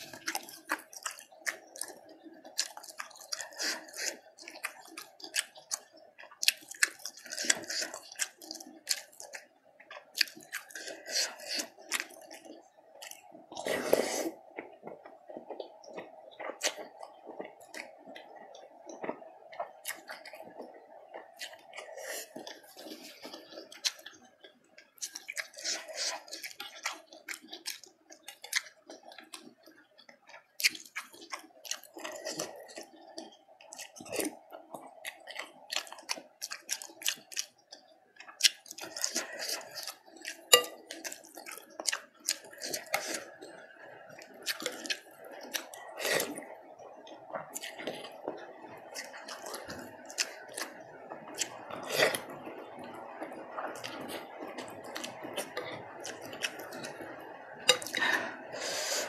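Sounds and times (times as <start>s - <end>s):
chewing and slurping: 0.0s - 59.0s.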